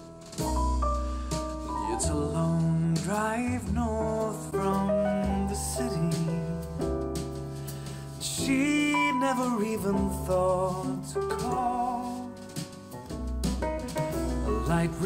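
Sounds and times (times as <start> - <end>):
music through speakers: 0.0 - 3.4, 4.2 - 15.0.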